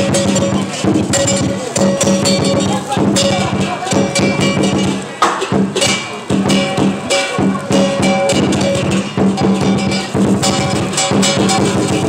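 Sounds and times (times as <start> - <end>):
percussion strikes: 0.0 - 12.0
steady drum beat: 0.0 - 12.0.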